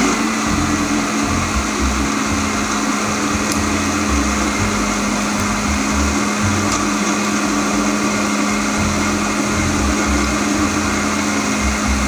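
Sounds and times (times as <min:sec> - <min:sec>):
blender motor running: 0:00.0 - 0:12.0
low churning: 0:00.0 - 0:12.0.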